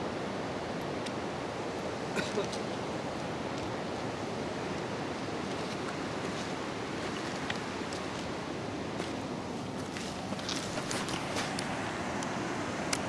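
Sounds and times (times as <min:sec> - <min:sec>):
river water over gravel: 0:00.0 - 0:13.0.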